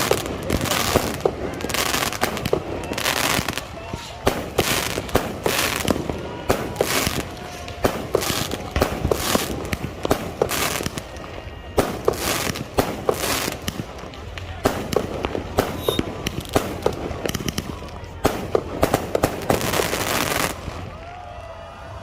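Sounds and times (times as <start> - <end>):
firework bangs: 0.0 - 21.1
firecrackers hissing and crackling: 0.0 - 21.3.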